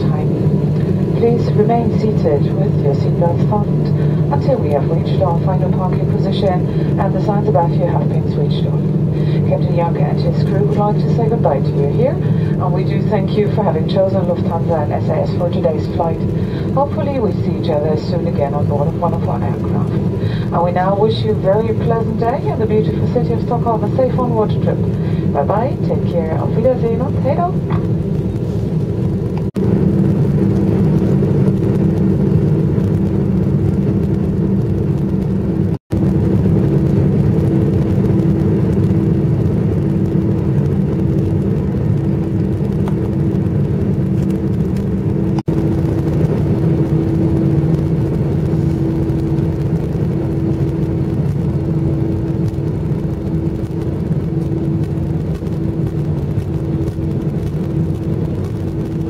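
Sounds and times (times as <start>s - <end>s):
airliner engine hum: 0.0s - 59.0s.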